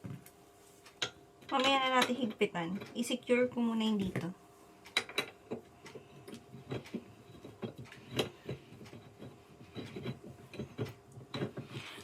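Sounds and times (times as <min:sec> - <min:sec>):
chair parts clicking and tapping: 0:00.0 - 0:12.0.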